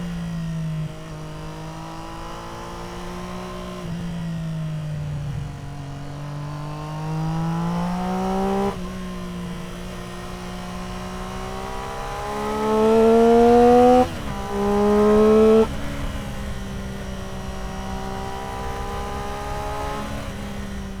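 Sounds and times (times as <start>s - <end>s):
motorcycle engine accelerating: 3.9s - 21.0s.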